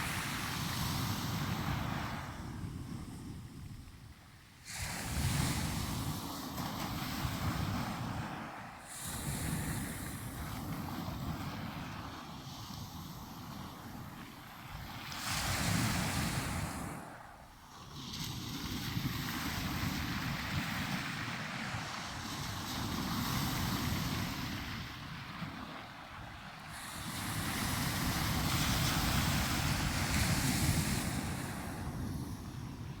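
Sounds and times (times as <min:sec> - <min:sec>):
waves breaking on shore: 0:00.0 - 0:03.7, 0:04.4 - 0:33.0
wind rumbling on microphone: 0:00.0 - 0:33.0.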